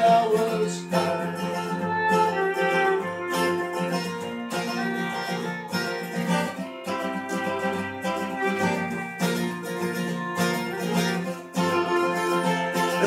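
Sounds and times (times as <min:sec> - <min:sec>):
acoustic guitar strumming and picking: 0:00.0 - 0:13.0.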